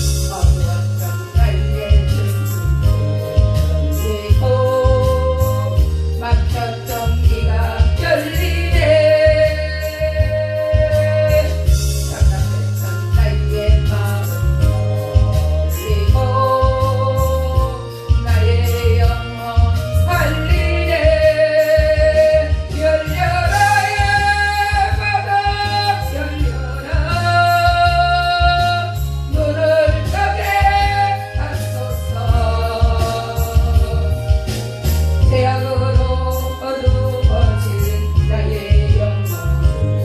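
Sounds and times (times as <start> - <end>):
accompaniment with bass and beat: 0.0 - 40.0
person singing gospel song: 0.0 - 40.0.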